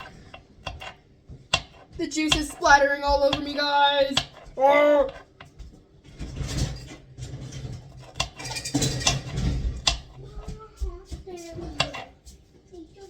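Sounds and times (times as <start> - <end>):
rustling and handling: 0.0 - 13.0.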